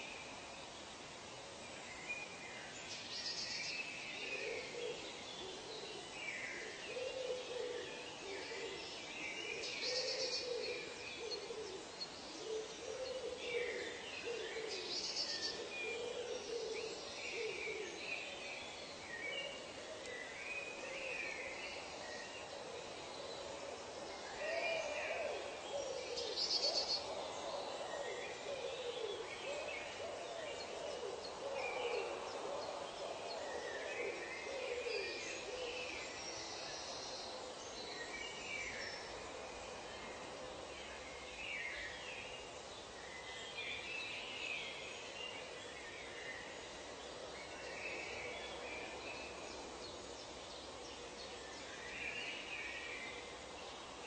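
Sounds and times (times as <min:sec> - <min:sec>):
birds chirping and twittering: 0:00.0 - 0:54.0
steady background hiss: 0:00.0 - 0:54.0.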